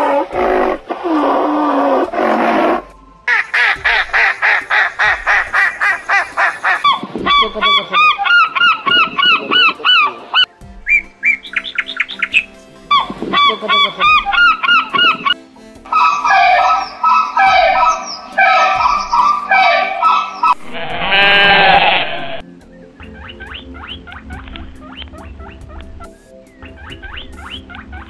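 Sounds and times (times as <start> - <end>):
geese honking: 0.0 - 22.4, 23.0 - 28.0
gulls calling: 0.0 - 28.0
higher rising bird calls: 0.0 - 28.0.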